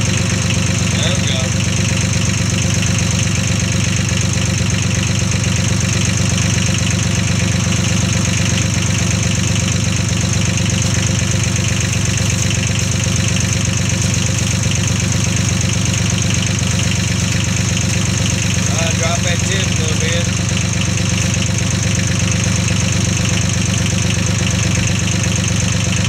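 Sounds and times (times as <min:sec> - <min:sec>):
small tractor engine idling: 0:00.0 - 0:26.0.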